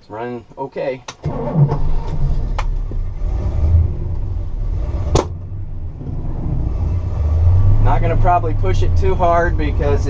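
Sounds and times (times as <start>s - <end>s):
car engine rumbling: 1.2s - 10.0s.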